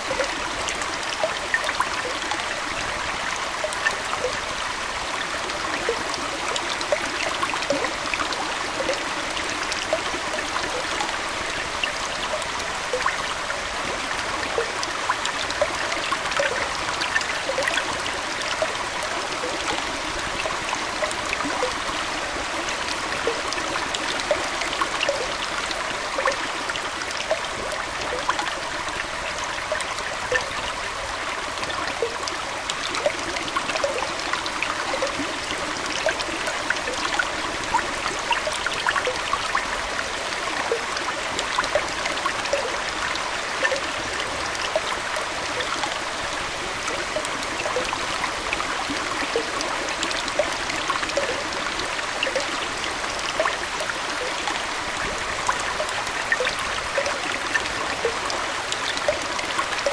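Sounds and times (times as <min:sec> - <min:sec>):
aquarium water splashing: 0:03.4 - 0:59.9.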